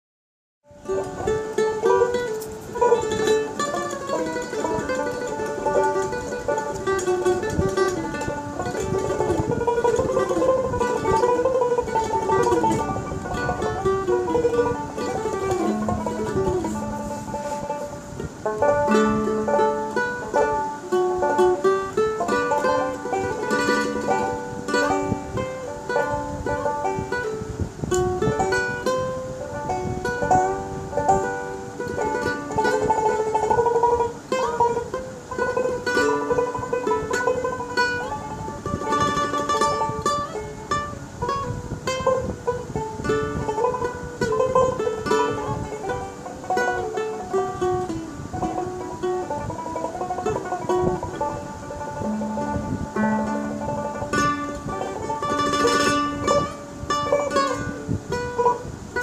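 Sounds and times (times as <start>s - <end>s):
plucked folk string melody: 0.6s - 59.0s.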